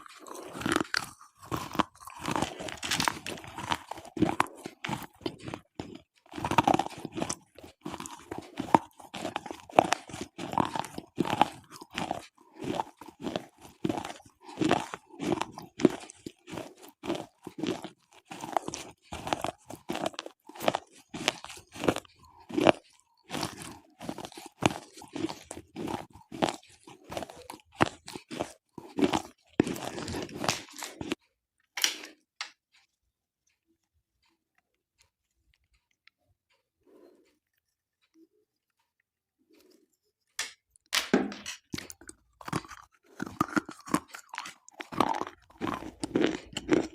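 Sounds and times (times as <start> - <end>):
slate pencils being chewed: 0.0 - 46.9.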